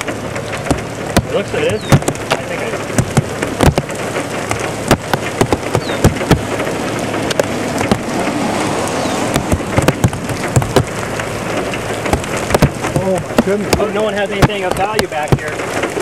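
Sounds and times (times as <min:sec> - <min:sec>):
raindrops tapping hard surface: 0:00.0 - 0:16.0
steady rush of rain: 0:00.0 - 0:16.0.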